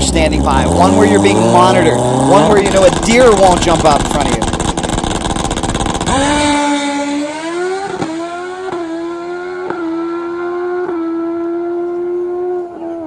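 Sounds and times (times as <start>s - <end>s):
quick gear shifts: 0.0s - 12.0s
motorcycle engine revving and accelerating: 0.0s - 13.0s.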